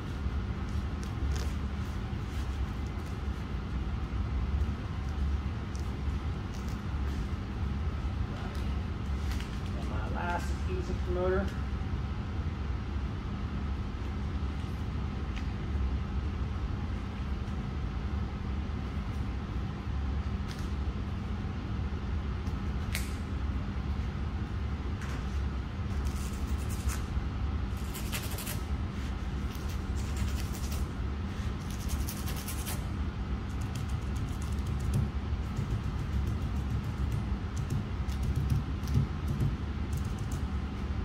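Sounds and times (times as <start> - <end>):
faint constant hum: 0.0 - 41.0.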